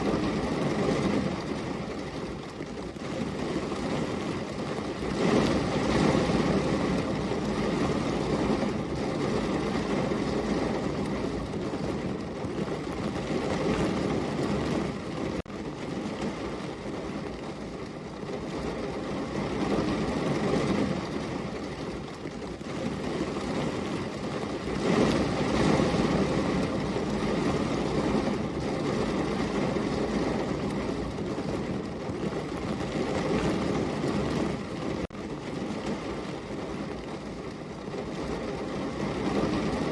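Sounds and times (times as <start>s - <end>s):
heavy rain rushing: 3.3s - 39.9s.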